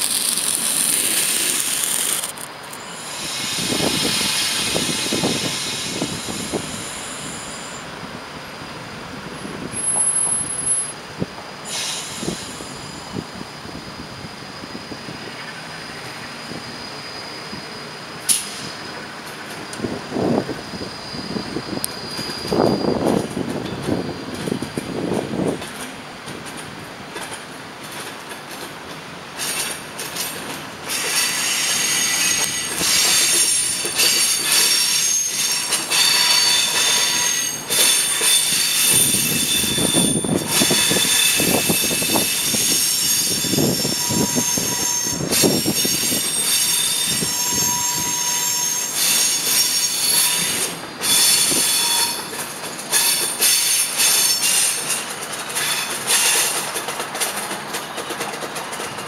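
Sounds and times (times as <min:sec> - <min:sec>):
train wheels squealing: 0:00.0 - 0:08.0, 0:09.3 - 0:25.9, 0:29.4 - 0:59.0
train rumbling over rails: 0:00.0 - 0:59.0.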